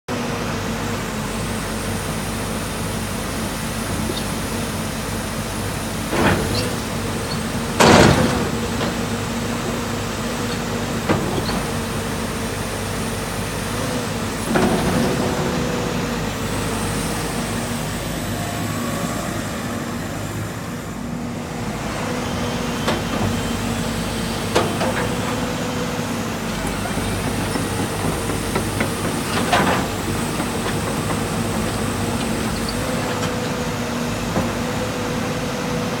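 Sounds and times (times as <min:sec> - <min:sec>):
excavator diesel engine running: 0:00.1 - 0:36.0
loud machine noises: 0:00.2 - 0:36.0.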